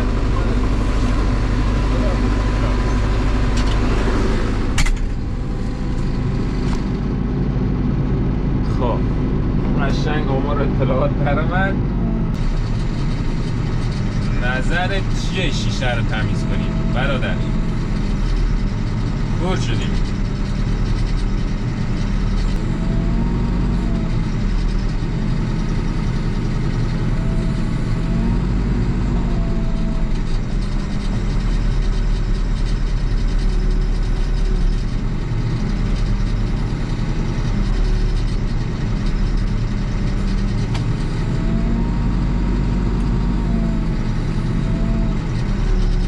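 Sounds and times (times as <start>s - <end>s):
backhoe diesel engine running: 0.0s - 46.0s.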